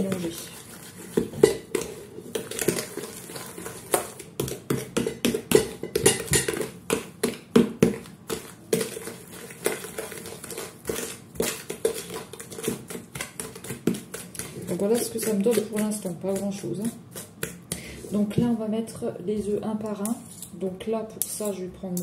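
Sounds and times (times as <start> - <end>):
fork scraping mixing bowl: 0.0 - 18.7, 19.8 - 21.7.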